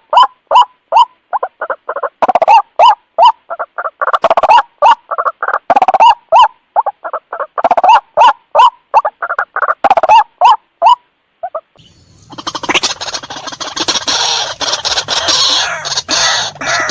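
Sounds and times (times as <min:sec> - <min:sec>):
waterhen calling: 0:00.0 - 0:16.9.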